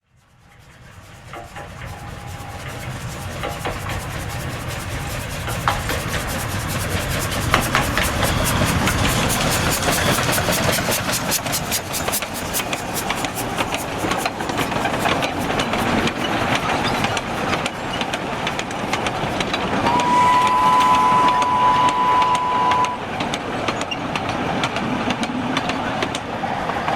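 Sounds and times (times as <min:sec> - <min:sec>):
train rumbling and clattering: 0:00.0 - 0:26.9.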